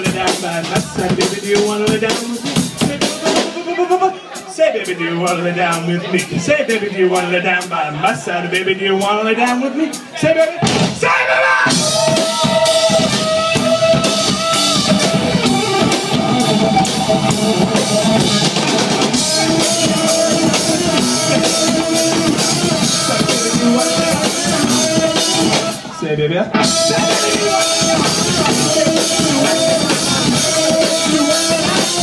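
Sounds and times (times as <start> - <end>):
drum kit fast beat: 0.0 - 25.9, 26.6 - 32.0
live rock band playing: 0.0 - 32.0.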